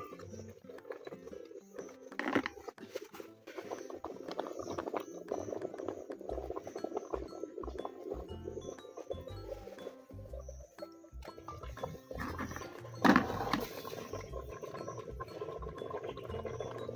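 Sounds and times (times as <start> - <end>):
pot boiling hard with pops: 0.0 - 16.9.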